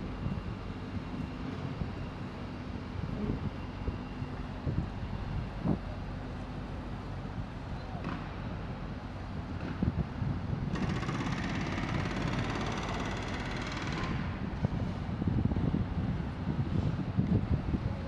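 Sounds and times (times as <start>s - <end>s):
distant city traffic rumble: 0.0s - 18.0s.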